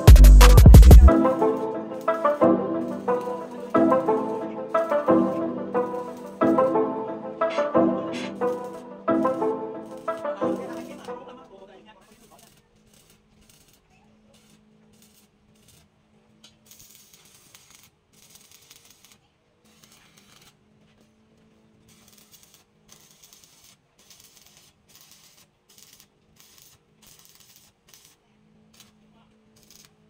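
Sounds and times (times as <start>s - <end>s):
welding arc crackling and hissing: 0.0s - 6.7s, 7.4s - 11.3s, 12.0s - 21.2s, 21.8s - 30.0s.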